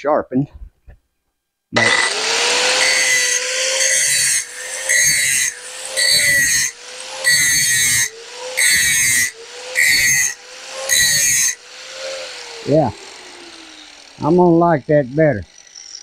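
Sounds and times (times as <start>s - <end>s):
angle grinder whining: 1.8s - 16.0s.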